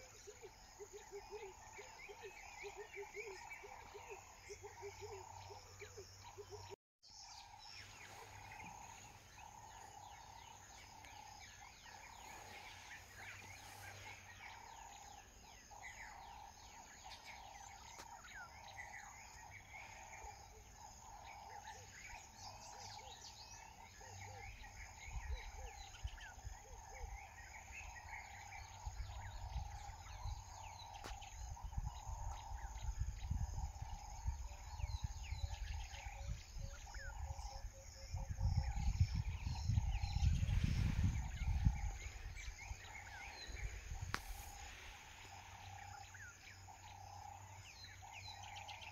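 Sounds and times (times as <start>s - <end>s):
birds chirping: 0.0s - 48.9s
insect drone: 0.0s - 48.9s.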